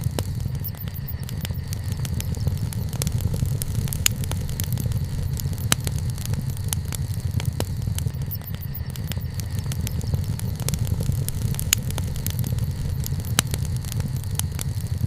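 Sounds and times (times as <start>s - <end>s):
bonfire crackling and popping: 0.0s - 15.0s
low fire rumble: 0.0s - 15.0s.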